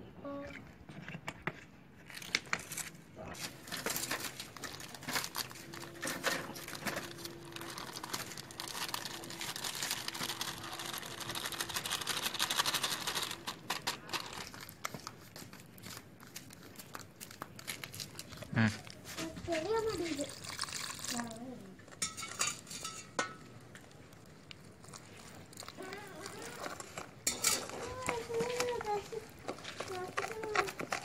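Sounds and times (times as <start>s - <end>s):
plastic packet crinkling: 2.1s - 21.5s, 23.6s - 31.0s.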